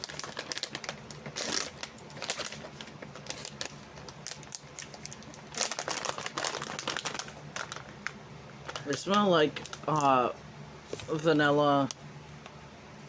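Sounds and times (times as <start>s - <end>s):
plastic package crinkling: 0.0s - 10.3s, 10.9s - 12.0s.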